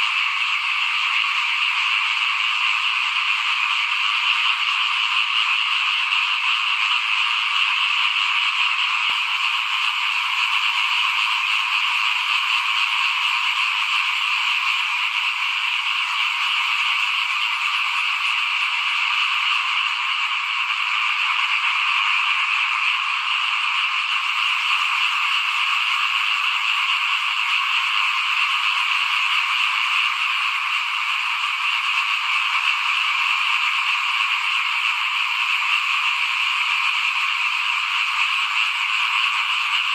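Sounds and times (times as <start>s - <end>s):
chorus of small frogs calling: 0.0s - 39.9s.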